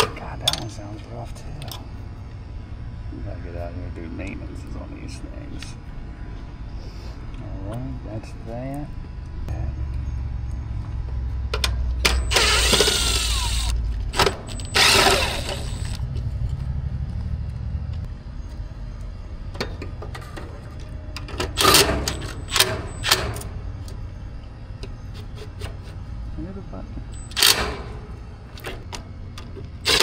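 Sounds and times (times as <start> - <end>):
air-conditioner unit humming: 0.0 - 30.0.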